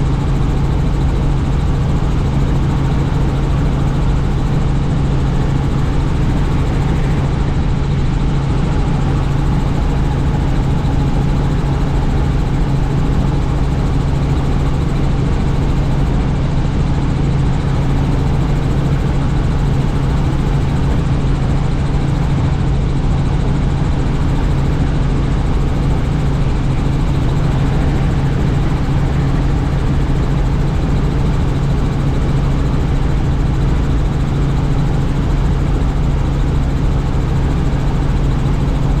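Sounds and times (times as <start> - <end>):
helicopter rotor and engine drone: 0.0 - 39.0.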